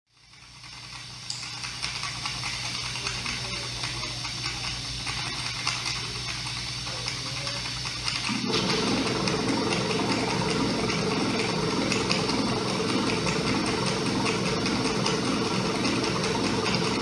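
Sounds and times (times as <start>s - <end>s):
steady low hum: 0.5s - 17.0s.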